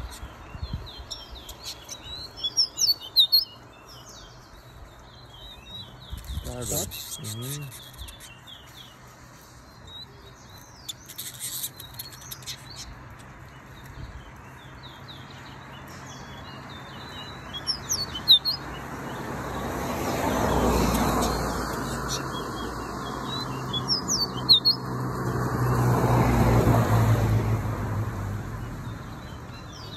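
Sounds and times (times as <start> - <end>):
finches chirping: 0.0 - 24.9
rushing noise of passing vehicles: 0.0 - 29.9.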